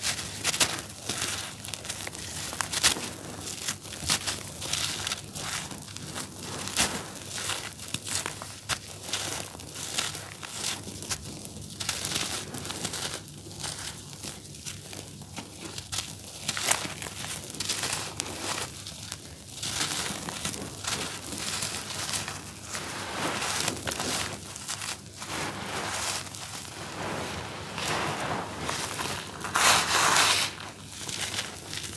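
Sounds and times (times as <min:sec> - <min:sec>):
charcoal crunching between hands: 0:00.0 - 0:31.9
powder grains falling: 0:00.0 - 0:31.9.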